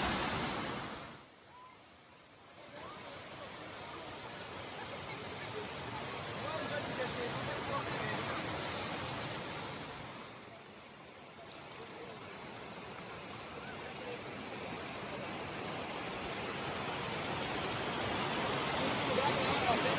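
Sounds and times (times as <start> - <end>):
waterfall rushing over rock: 0.0 - 19.9.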